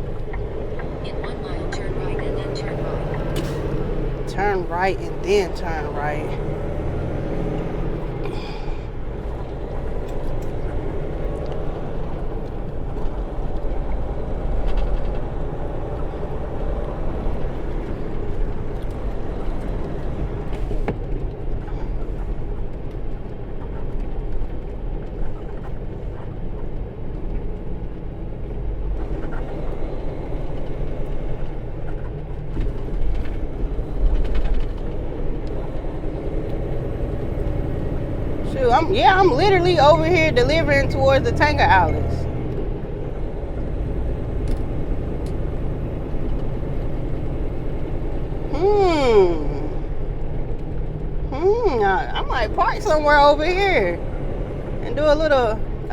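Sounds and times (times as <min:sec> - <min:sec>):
diesel engine low rumble: 0:00.0 - 0:55.9
road noise: 0:00.0 - 0:55.9.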